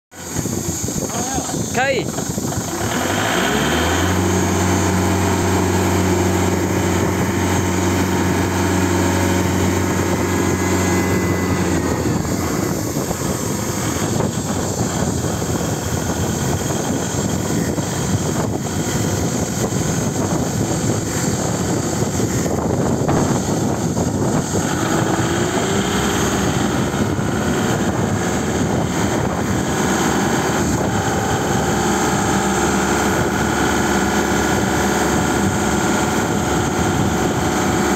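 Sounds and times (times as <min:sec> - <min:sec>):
forklift diesel engine: 0:00.1 - 0:37.9.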